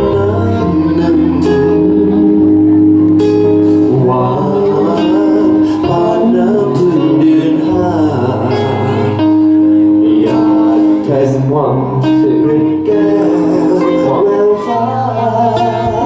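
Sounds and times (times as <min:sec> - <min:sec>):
live band through a pa: 0:00.0 - 0:16.0
person singing: 0:00.0 - 0:16.0.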